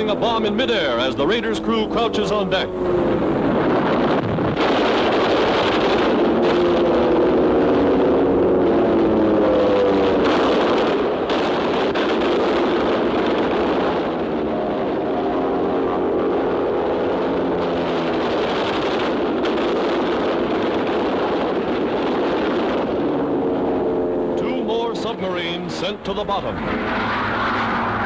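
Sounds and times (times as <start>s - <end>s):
dense rushing roar: 0.0s - 28.0s
propeller aircraft engines droning: 0.0s - 28.0s.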